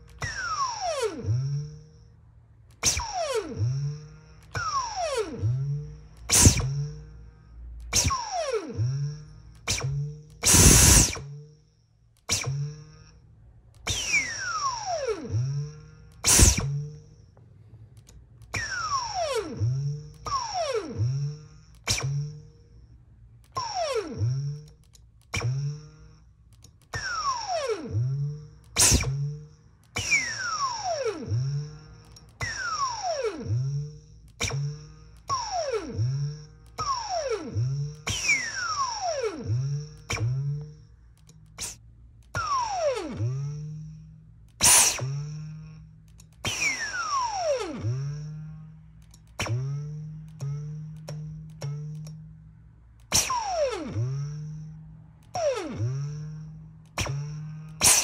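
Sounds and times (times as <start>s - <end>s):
vacuum motor whining down: 0.0s - 2.1s, 2.7s - 11.5s, 12.2s - 13.2s, 13.8s - 22.6s, 23.4s - 26.2s, 26.8s - 52.2s, 53.0s - 58.0s.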